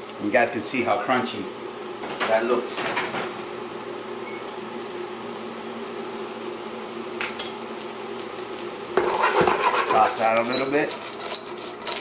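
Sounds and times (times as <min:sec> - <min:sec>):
induction cooker humming: 0:00.0 - 0:12.0
vegetables sizzling: 0:00.0 - 0:12.0.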